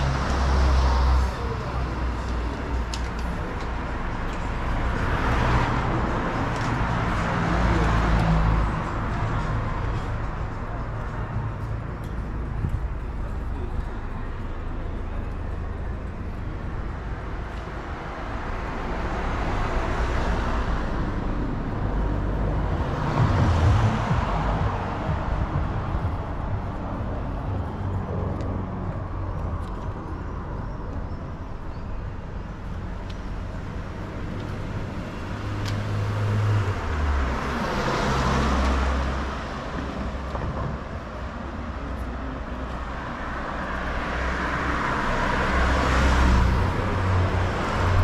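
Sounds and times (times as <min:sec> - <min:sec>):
cars passing by: 0:00.0 - 0:48.0
traffic rumble: 0:00.0 - 0:48.0.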